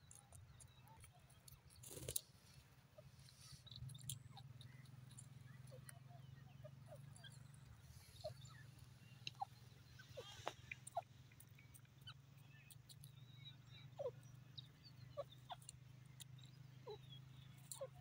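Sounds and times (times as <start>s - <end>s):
bird chirping calls: 0.0s - 18.0s.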